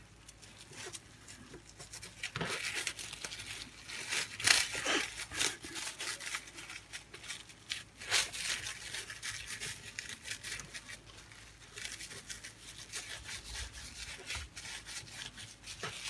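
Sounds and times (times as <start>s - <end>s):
cling film crinkling and rustling: 0.2s - 16.0s.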